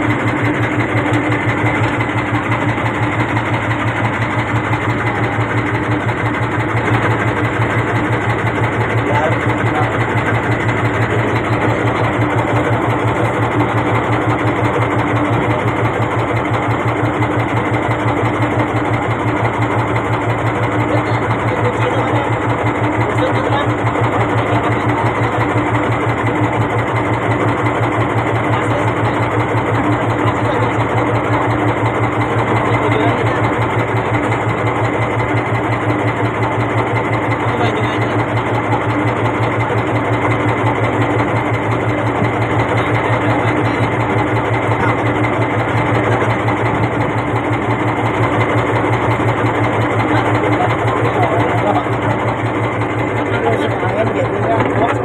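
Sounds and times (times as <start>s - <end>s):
small boat engine running: 0.0s - 55.0s.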